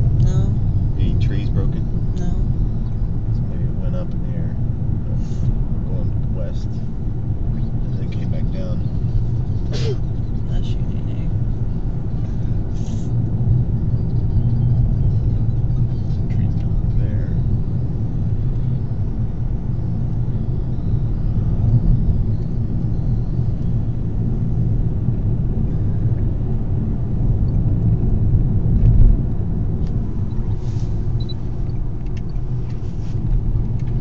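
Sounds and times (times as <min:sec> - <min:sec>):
car driving rumble inside cabin: 0:00.0 - 0:34.0.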